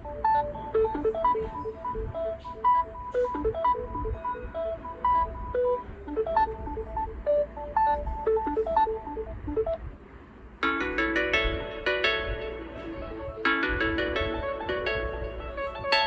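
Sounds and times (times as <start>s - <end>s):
electronic ringtone melody: 0.0s - 9.8s, 10.6s - 16.0s.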